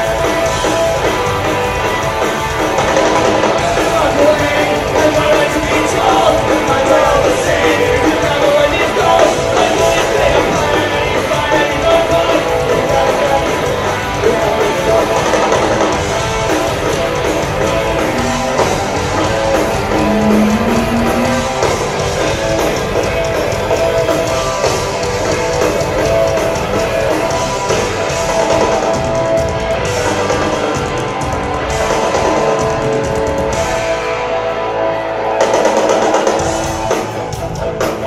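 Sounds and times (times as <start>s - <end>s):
live punk rock band: 0.0s - 38.0s.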